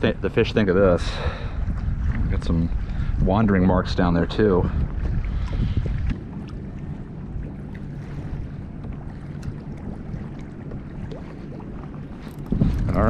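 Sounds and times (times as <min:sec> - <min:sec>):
waves lapping against kayak hull: 0:00.0 - 0:13.0
wind rumbling on microphone: 0:00.0 - 0:13.0.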